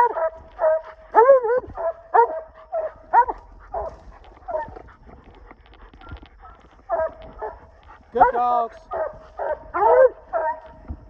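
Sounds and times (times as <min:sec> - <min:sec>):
hounds barking: 0:00.0 - 0:11.0.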